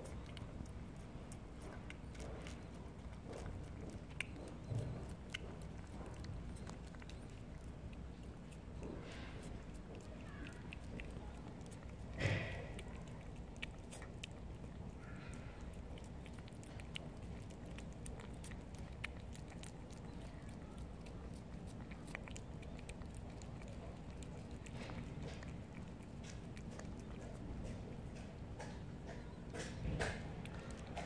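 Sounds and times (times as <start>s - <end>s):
cat chewing and lapping food: 0.0s - 31.0s.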